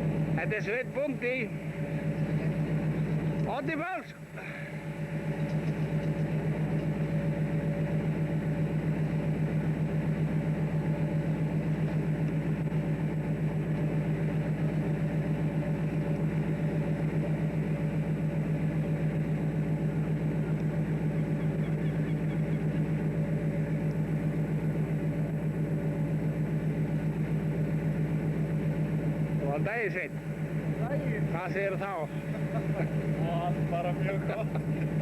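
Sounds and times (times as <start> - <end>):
boat engine throbbing: 0.0 - 35.0.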